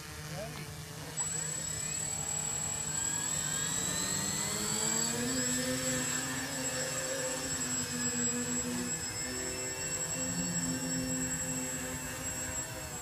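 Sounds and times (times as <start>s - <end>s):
model propellers whining: 0.0s - 13.0s.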